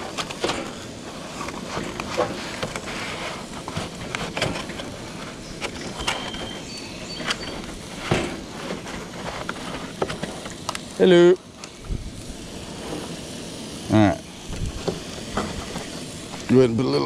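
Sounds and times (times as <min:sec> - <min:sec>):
burger patty sizzling on griddle: 0:00.0 - 0:17.0.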